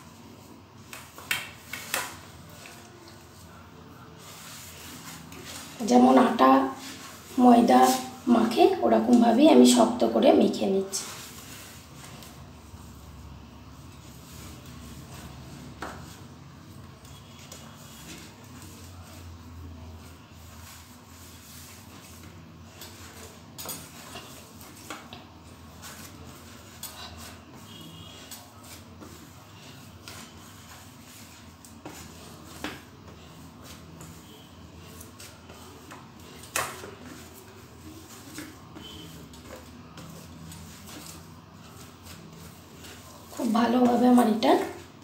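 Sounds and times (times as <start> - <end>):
hands kneading dough on metal: 0.0 - 10.3, 10.9 - 45.0.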